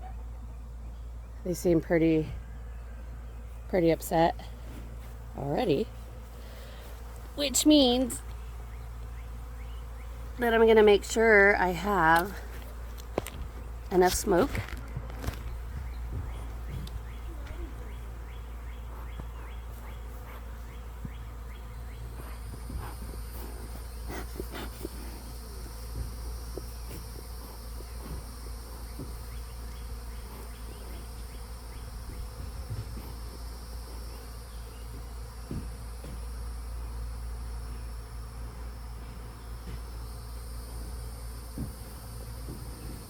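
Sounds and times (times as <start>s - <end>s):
honeybees buzzing: 0.0s - 43.0s.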